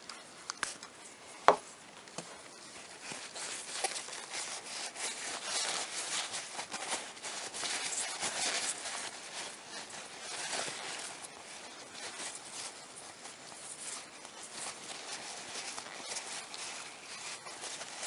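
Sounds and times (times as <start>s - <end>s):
paper towel crinkling: 0.0s - 18.0s.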